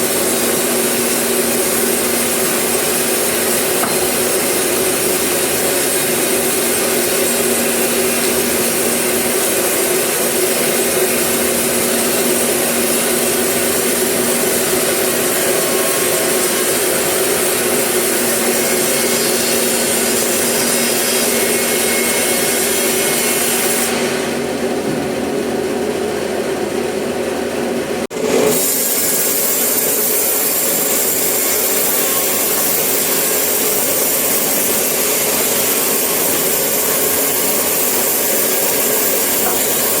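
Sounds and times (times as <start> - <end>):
saw cutting through timber: 0.0 - 24.4, 28.1 - 40.0.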